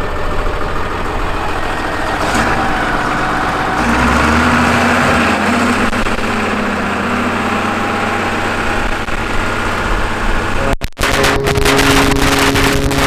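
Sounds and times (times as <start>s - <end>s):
wheel loader diesel engine revving: 0.0s - 13.0s.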